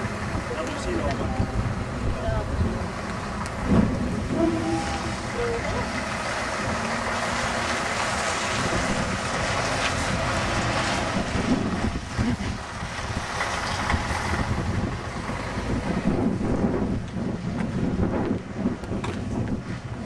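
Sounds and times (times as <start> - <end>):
truck diesel engine running: 0.0 - 20.0
wind buffeting microphone: 0.0 - 20.0.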